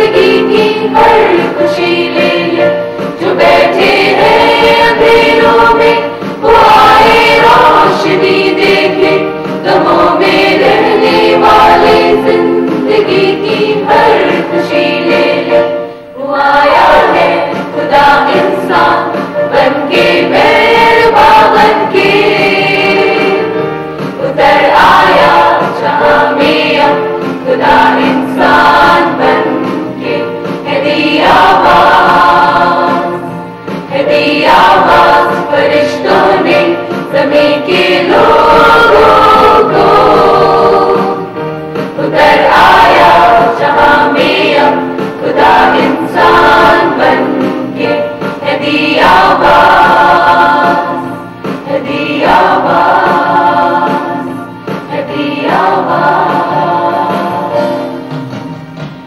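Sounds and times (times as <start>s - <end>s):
mixed choir singing: 0.0s - 58.9s.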